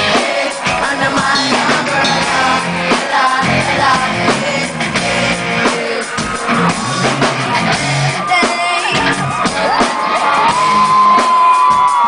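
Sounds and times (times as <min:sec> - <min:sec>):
woman singing lead vocal: 0:00.0 - 0:06.6, 0:07.4 - 0:10.5
live band with drum kit: 0:00.0 - 0:12.0.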